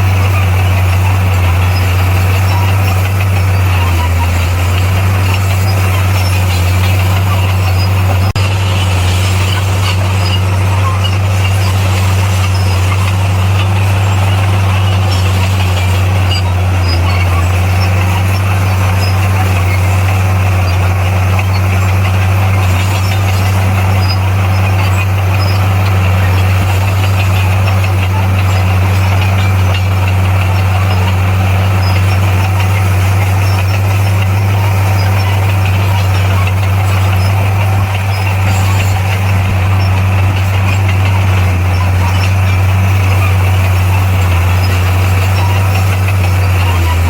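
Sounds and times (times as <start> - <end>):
bulldozer diesel engine drone: 0.0 - 47.0.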